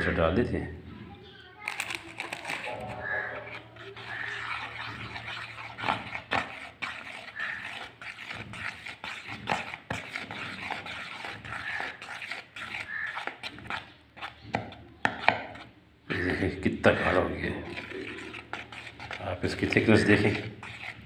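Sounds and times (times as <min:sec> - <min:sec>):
spoon scraping plastic bowl: 0:01.6 - 0:21.0.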